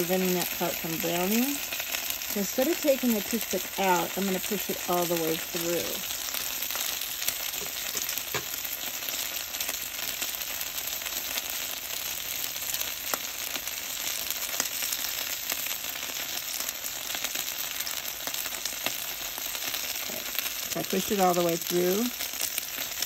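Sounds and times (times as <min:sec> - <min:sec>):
bacon sizzling on a griddle: 0:00.0 - 0:23.0.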